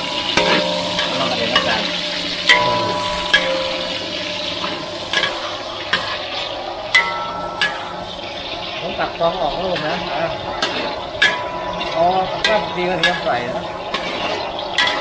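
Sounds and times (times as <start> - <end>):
metal spatula scraping a wok: 0.0 - 8.8, 9.6 - 15.0
food sizzling in hot oil: 0.0 - 15.0.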